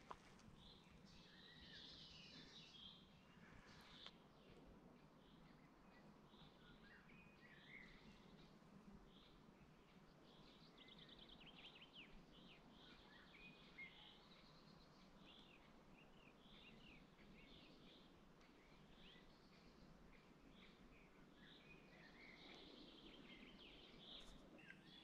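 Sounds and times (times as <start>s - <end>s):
songbirds chirping and whistling: 0.0s - 25.0s.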